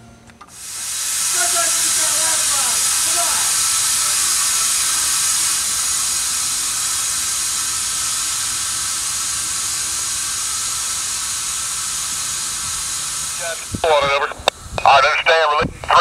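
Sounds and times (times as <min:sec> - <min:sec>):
compressed air hissing: 0:00.4 - 0:16.0.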